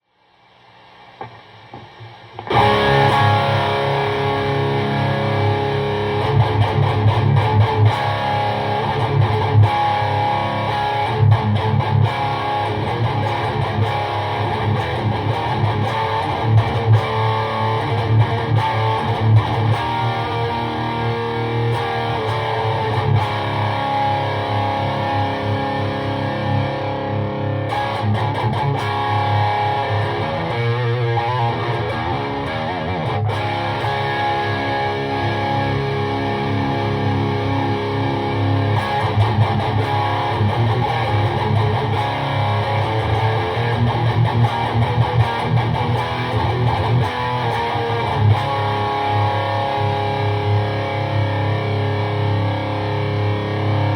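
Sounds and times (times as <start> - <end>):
electric guitar through amp: 0.3 - 53.9.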